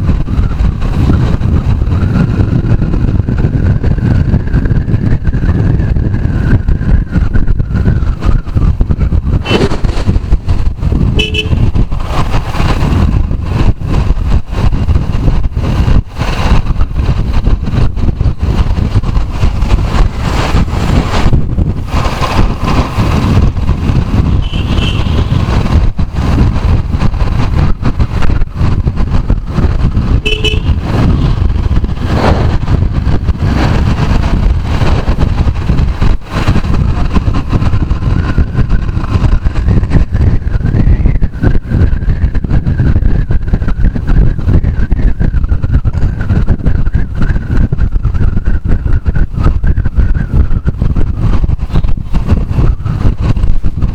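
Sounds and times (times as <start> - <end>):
road and engine rumble: 0.0 - 53.9
wind buffeting microphone: 0.0 - 53.9.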